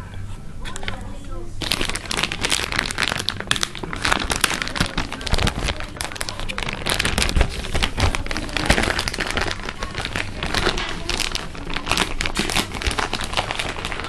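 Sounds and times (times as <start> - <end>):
plastic wrap crinkling: 0.7 - 14.0.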